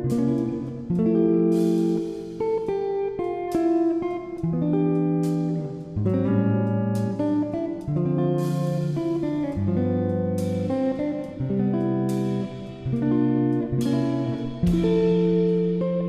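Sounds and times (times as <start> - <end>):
guitar chords: 0.0 - 16.0.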